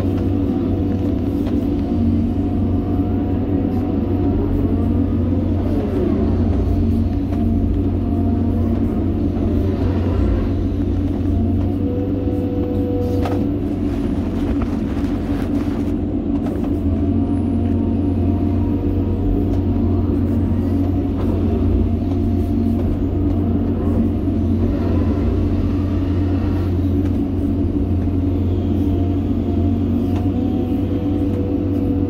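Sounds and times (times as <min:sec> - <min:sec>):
excavator diesel engine running: 0:00.0 - 0:32.0
hydraulics whining: 0:00.0 - 0:32.0.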